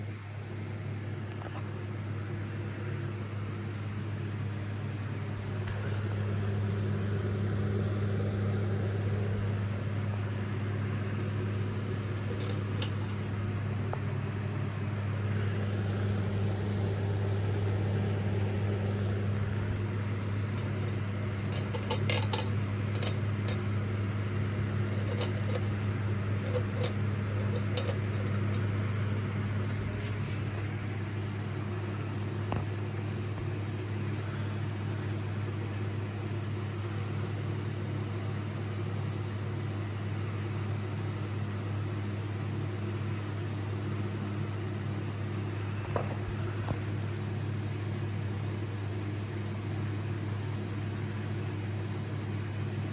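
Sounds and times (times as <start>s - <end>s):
ceiling fan humming: 0.0s - 52.9s.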